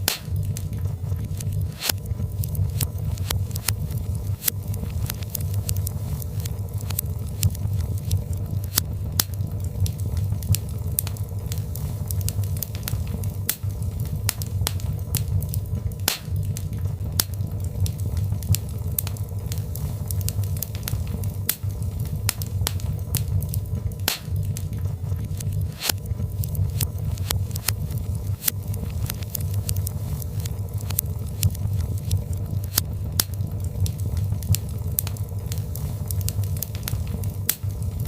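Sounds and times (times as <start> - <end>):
fire crackles and pops: 0.0 - 38.0
low rumble of fire: 0.0 - 38.0.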